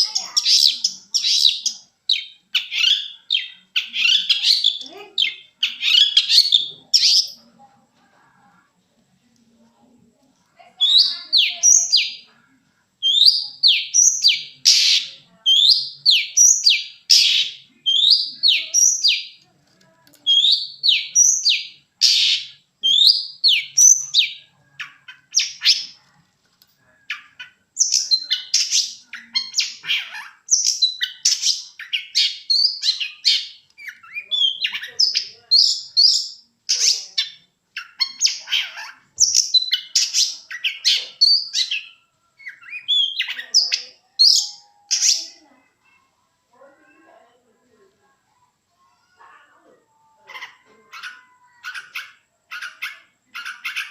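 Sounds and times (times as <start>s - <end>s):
bird chirping song: 0.0s - 7.6s, 10.7s - 19.5s, 20.2s - 26.1s, 26.8s - 47.1s, 50.2s - 53.9s.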